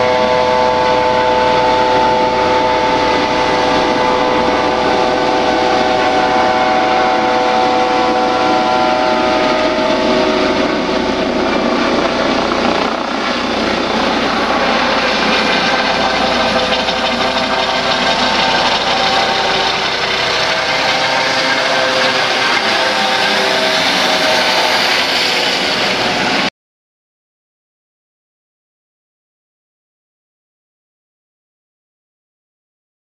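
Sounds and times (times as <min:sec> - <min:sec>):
helicopter rotor noise: 0:00.0 - 0:26.5
helicopter turbine whine: 0:00.0 - 0:26.5.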